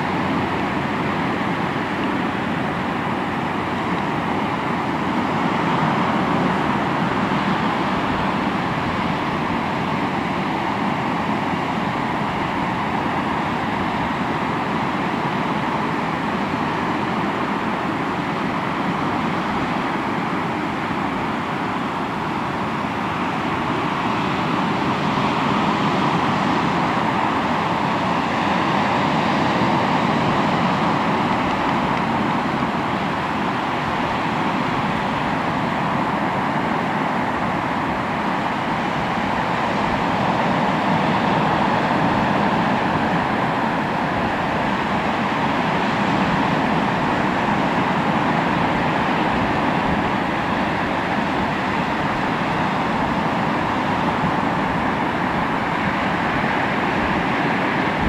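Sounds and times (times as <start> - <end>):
sea waves surging: 0.0 - 58.0.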